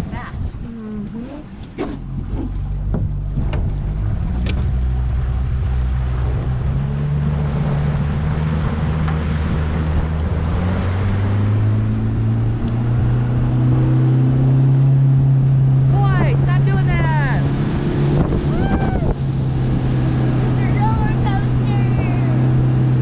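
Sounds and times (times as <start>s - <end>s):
outboard motor running: 0.0s - 23.0s
wind: 0.0s - 23.0s
water rushing: 1.2s - 23.0s.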